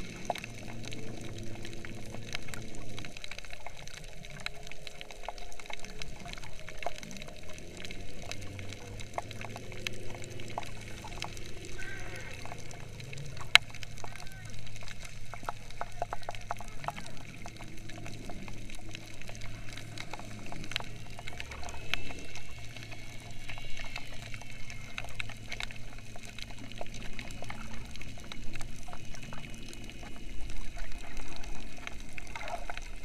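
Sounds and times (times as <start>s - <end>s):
muffled water movement: 0.0s - 33.0s
small clicks and crackles: 0.0s - 33.0s.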